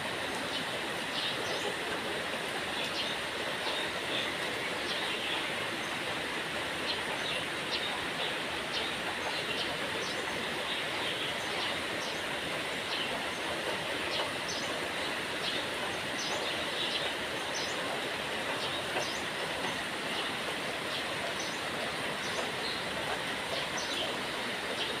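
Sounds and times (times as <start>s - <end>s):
soft rain falling: 0.0s - 25.0s.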